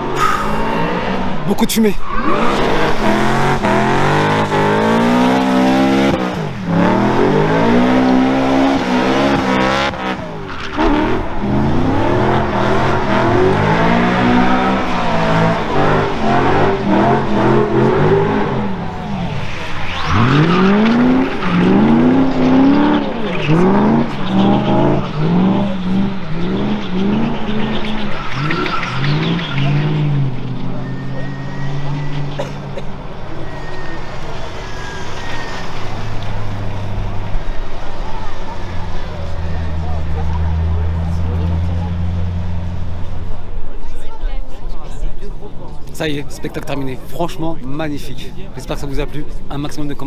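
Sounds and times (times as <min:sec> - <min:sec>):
tyres screeching: 0:00.0 - 0:40.7
car engine revving: 0:00.0 - 0:44.1.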